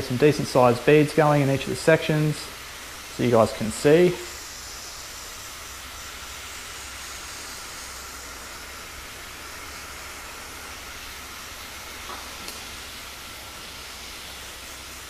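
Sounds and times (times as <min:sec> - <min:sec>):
hose nozzle spraying mist: 0:00.0 - 0:15.0.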